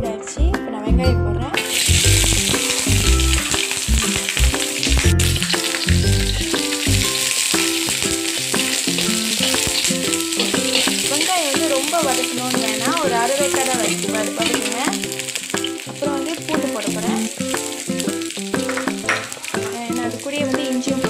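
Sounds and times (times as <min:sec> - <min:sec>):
onion sizzling in hot oil: 0:01.6 - 0:21.0.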